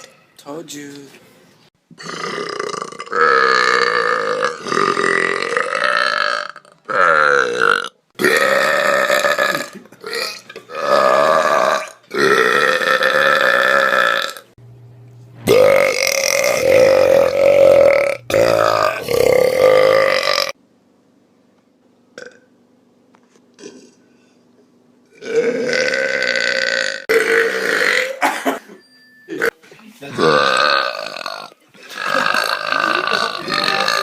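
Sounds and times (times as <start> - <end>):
person burping: 1.9 - 14.5, 15.5 - 20.6, 22.2 - 22.5, 23.6 - 24.0, 25.1 - 34.0.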